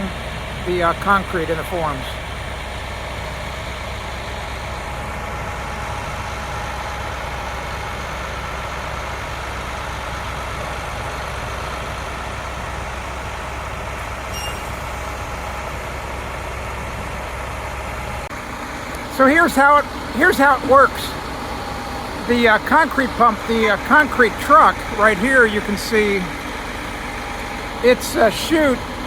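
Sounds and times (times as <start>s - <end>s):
diesel truck engines droning: 0.0s - 29.0s.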